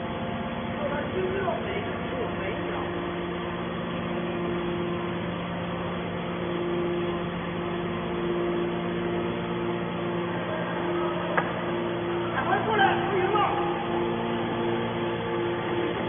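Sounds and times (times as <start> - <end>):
hydraulic baler humming: 0.0 - 16.0.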